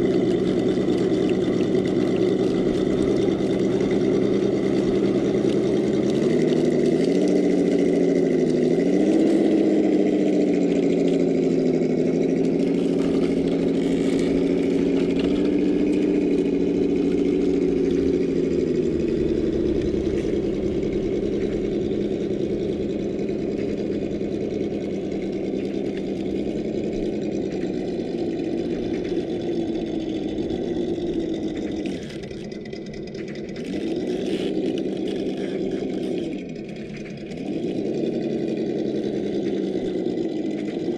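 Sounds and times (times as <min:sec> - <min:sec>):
toy car motor humming: 0:00.0 - 0:40.9.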